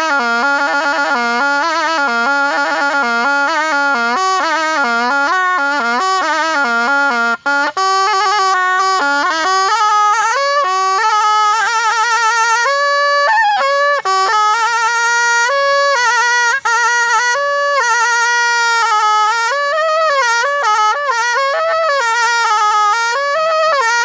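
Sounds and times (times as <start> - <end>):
reed oboe solo melody: 0.0 - 24.0.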